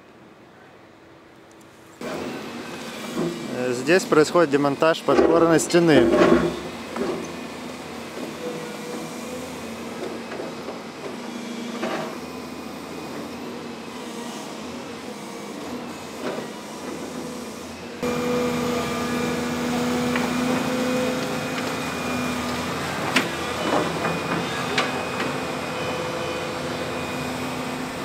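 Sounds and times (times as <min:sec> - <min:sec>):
construction machinery engine drone: 0:01.1 - 0:28.0.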